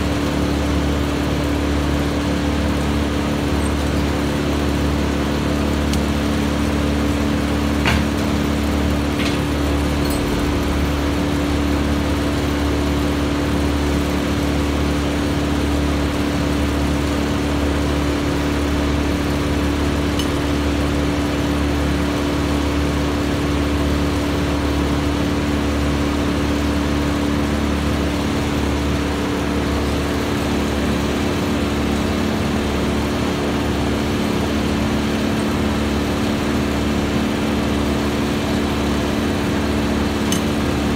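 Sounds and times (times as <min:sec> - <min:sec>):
wood chipper engine running: 0:00.0 - 0:40.9.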